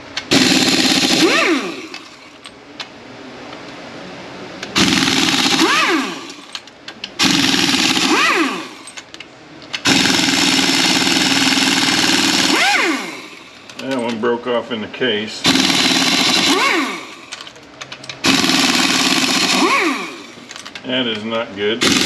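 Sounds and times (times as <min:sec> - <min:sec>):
impact wrench rattling and whining: 0:00.0 - 0:02.9, 0:04.7 - 0:14.3, 0:15.4 - 0:22.0.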